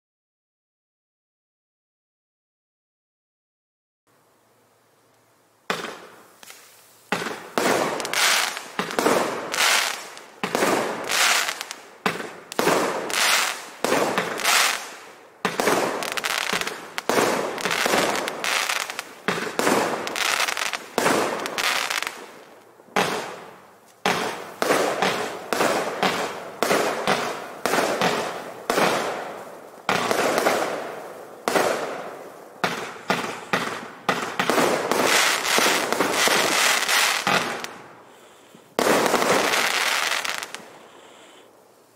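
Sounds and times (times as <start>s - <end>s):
fireworks shots banging: 5.7s - 37.8s, 38.8s - 40.7s.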